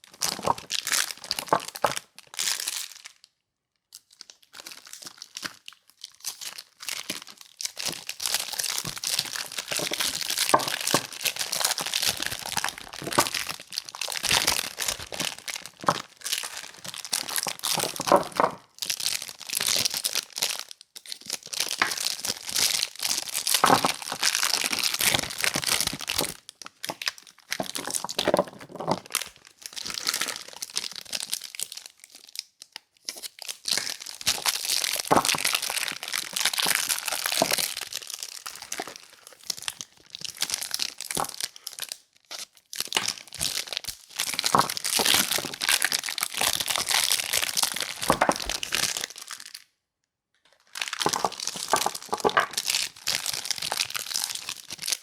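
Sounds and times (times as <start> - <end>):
wrapping crinkling and tearing: 0.0 - 49.7, 50.5 - 55.0.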